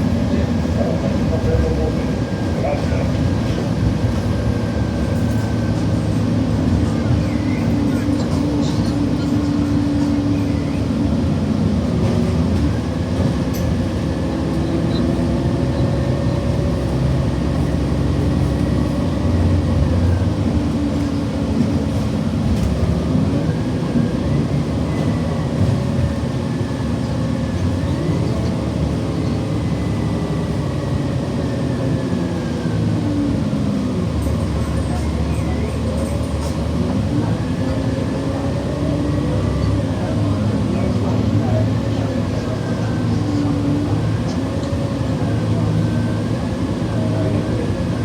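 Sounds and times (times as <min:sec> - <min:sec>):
bus engine rumble: 0:00.0 - 0:48.0.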